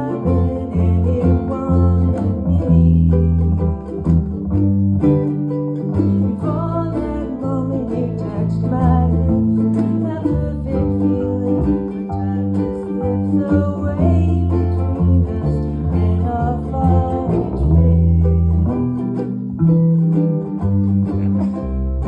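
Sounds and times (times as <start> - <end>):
instrumental guitar: 0.0 - 22.0
long held bass notes: 0.0 - 22.0.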